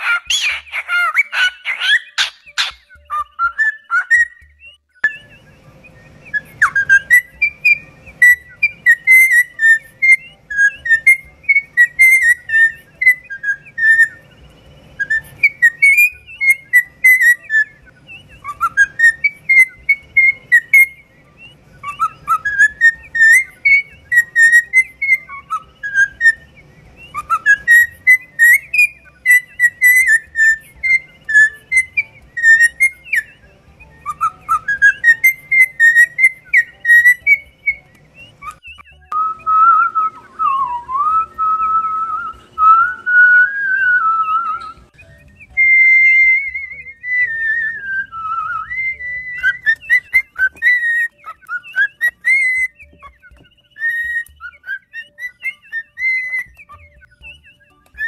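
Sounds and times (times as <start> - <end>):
cockatiel whistling: 0.0 - 58.0.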